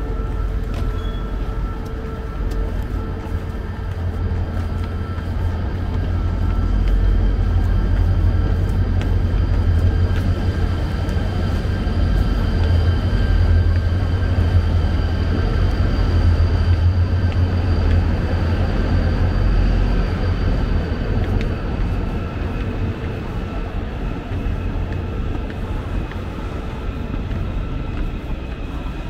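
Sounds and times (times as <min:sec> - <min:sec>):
station hall rumble: 0:00.0 - 0:29.0
footsteps on stairs: 0:00.1 - 0:29.0.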